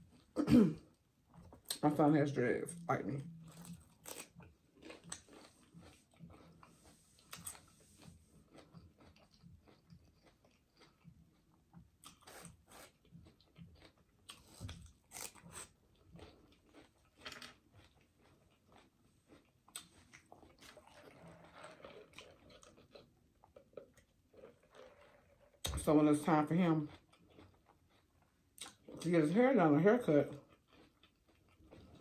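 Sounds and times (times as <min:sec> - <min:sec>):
chewing food with crisp crunches: 0:00.0 - 0:32.0.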